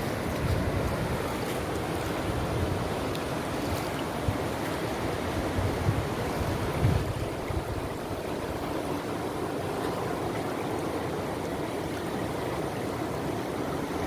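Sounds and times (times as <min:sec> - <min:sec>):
river flowing: 0:00.0 - 0:14.0.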